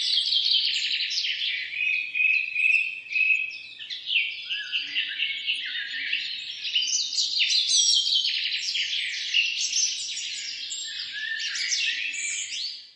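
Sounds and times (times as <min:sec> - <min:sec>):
songbirds singing: 0:00.0 - 0:12.9.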